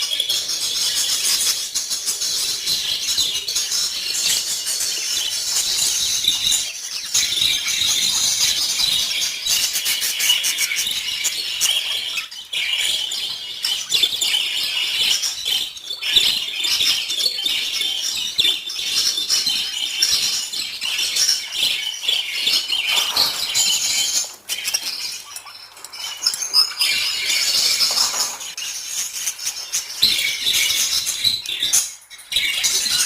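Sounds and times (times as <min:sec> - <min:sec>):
budgies chirping and chattering: 0:00.0 - 0:33.0.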